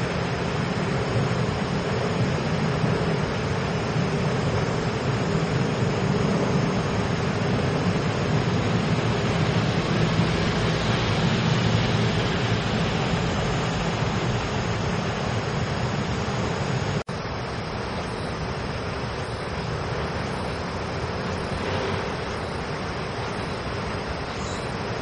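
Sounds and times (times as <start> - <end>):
train wheels rushing on rails: 0.0 - 17.0, 17.8 - 25.0
approaching train rumble: 0.0 - 25.0.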